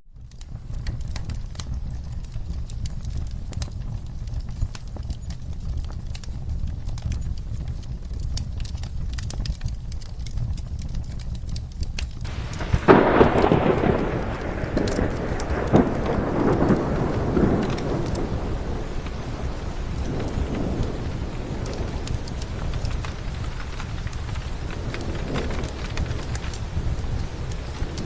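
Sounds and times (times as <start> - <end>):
fire crackling and popping: 0.0 - 28.0
steady rain: 0.1 - 28.0
thunderclap rumbling: 0.1 - 28.0.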